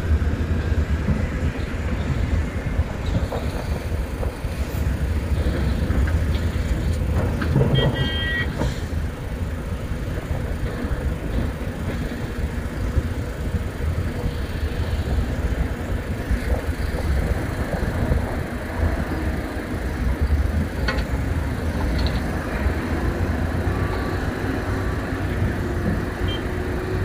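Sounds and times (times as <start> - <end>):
excavator and truck engines rumbling: 0.0 - 27.0.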